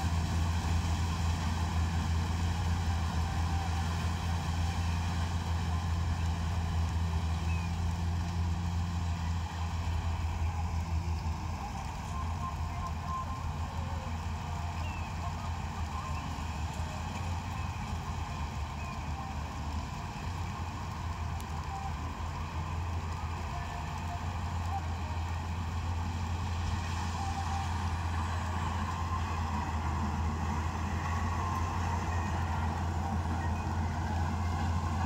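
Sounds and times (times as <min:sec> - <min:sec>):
combine harvester engine running: 0:00.0 - 0:35.0.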